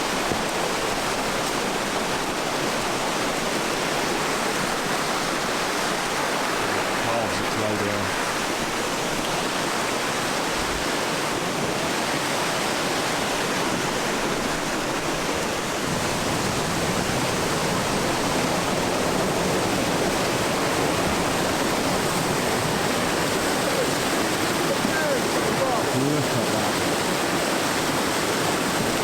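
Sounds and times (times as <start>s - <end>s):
mountain water rushing: 0.0s - 29.0s.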